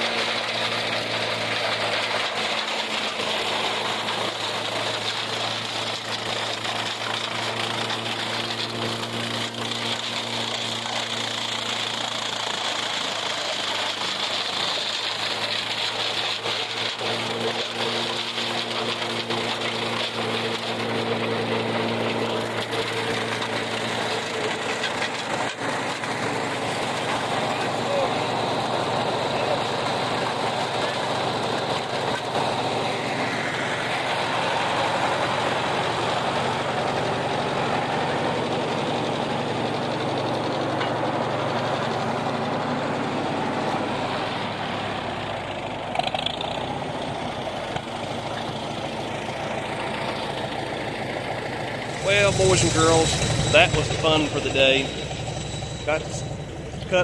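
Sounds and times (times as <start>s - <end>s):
silage chopper clattering: 0.0s - 43.8s, 47.7s - 57.0s
tractor engine under load: 0.0s - 57.0s.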